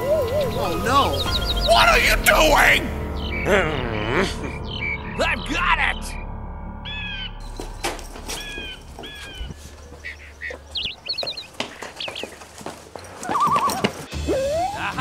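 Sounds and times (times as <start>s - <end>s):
high bird trill: 0.0s - 13.9s
birds chirping: 0.0s - 14.1s.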